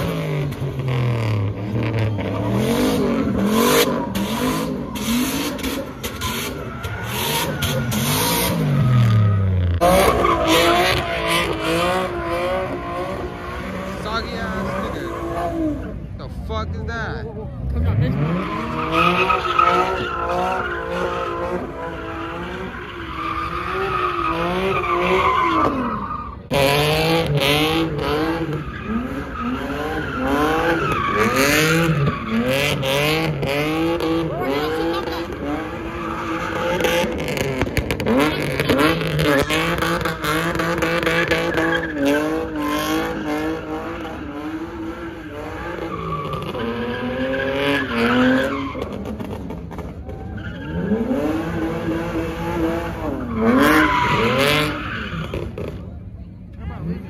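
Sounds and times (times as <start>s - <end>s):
car engine revving: 0.0s - 57.0s
tyres skidding and squealing: 0.0s - 57.0s.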